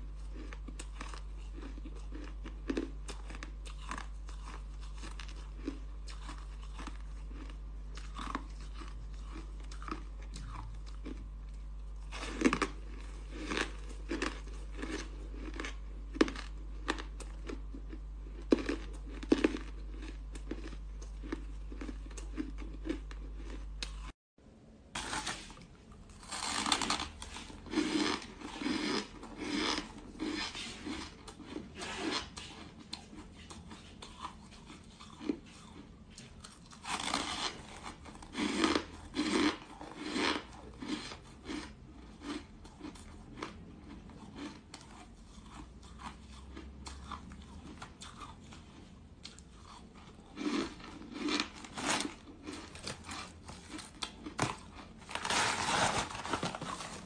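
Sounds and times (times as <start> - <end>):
ice crunching being chewed: 0.0 - 24.1, 26.1 - 57.0.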